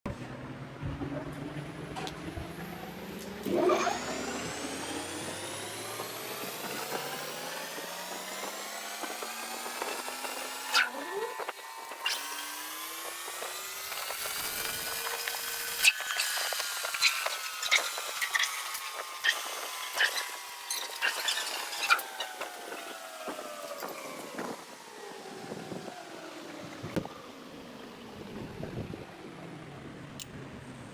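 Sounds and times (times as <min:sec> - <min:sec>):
lathe spindle motor whining: 0:01.2 - 0:30.5.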